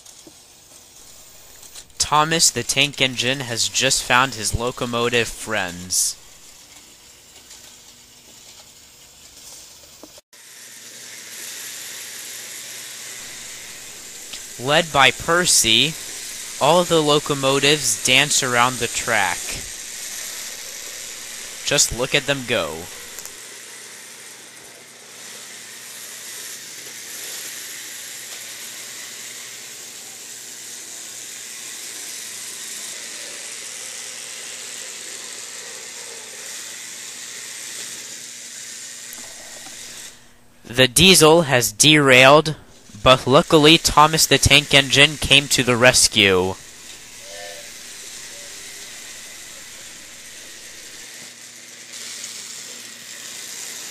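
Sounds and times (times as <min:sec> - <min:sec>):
model trains running on track: 0:00.0 - 0:40.2, 0:40.8 - 0:53.9.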